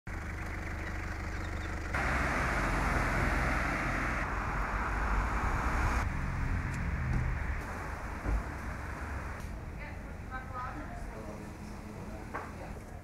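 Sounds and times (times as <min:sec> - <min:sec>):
outdoor background rush: 0:00.1 - 0:13.0.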